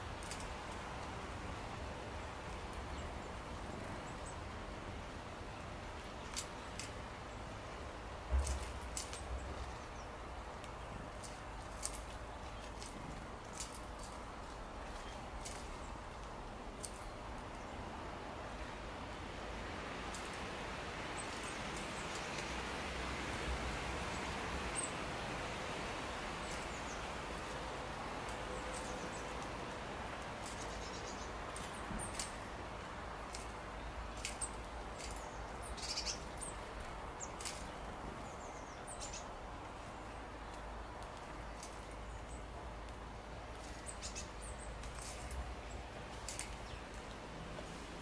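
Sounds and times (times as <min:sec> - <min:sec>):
steady background noise: 0:00.0 - 0:48.0
birds chirping: 0:01.9 - 0:48.0.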